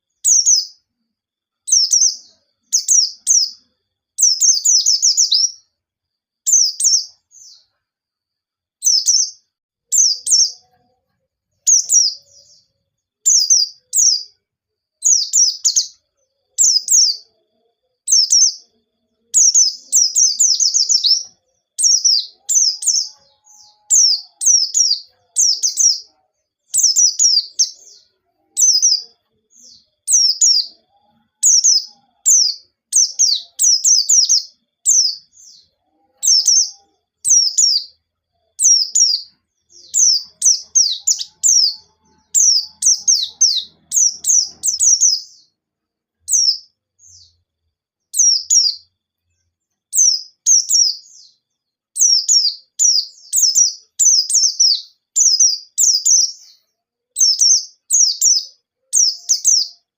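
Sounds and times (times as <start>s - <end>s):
bird singing falling chirps: 1.7s - 5.6s, 6.5s - 7.7s, 8.8s - 10.7s, 11.6s - 14.4s, 15.0s - 17.4s, 18.0s - 45.6s, 46.3s - 47.4s, 48.1s - 48.9s, 49.9s - 59.9s.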